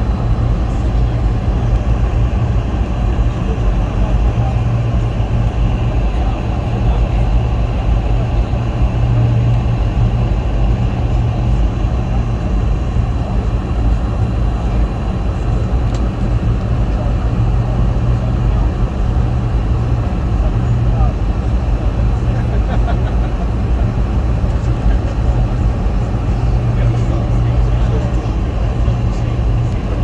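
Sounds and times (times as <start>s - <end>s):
airplane cabin airflow and engine: 0.0s - 30.0s.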